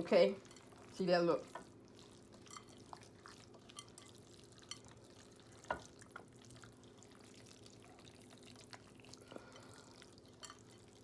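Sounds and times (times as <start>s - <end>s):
hands mixing moist food: 0.0s - 11.0s.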